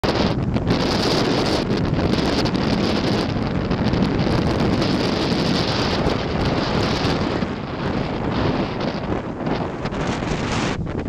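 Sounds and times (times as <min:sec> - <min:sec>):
sea surf: 0:00.0 - 0:11.0
wind buffeting microphone: 0:00.0 - 0:11.0.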